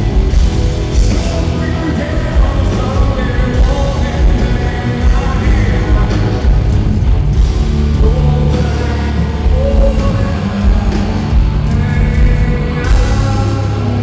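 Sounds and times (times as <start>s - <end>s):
bass guitar: 0.0s - 14.0s
distorted electric guitars: 0.0s - 14.0s
drums: 0.0s - 14.0s.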